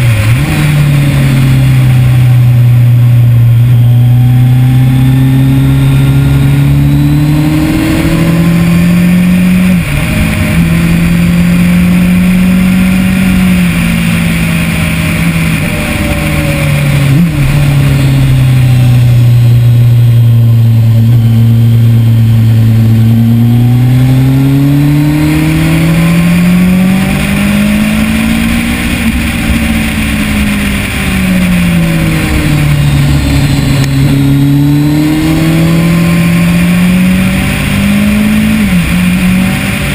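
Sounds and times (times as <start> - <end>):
motorcycle engine at speed: 0.0 - 39.9
wind rush: 5.9 - 39.9.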